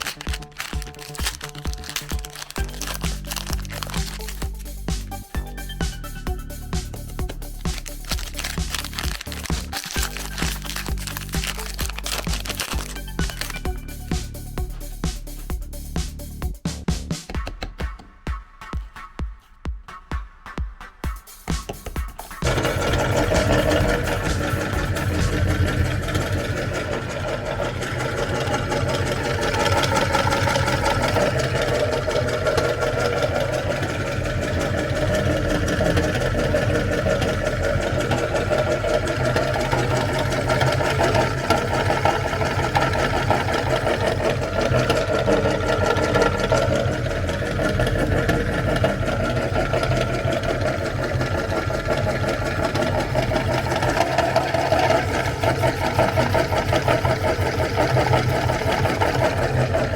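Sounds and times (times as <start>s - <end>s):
electric meat grinder whirring: 0.0s - 14.6s, 21.8s - 59.9s.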